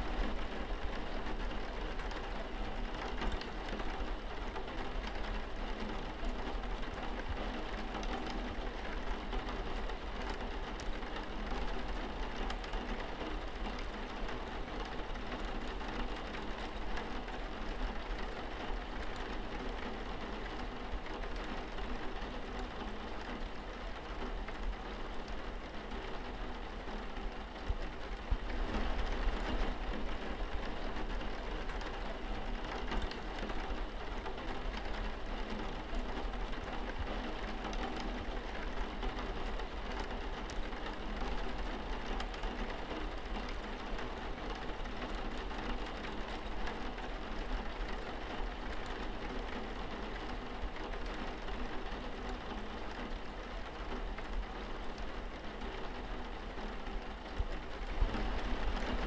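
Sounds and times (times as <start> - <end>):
rain pattering on a window: 0.0 - 59.0.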